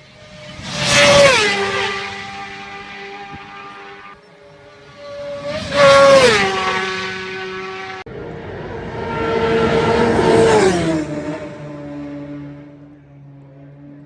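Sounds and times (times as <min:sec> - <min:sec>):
racing motorcycles passing at speed: 0:00.0 - 0:14.0.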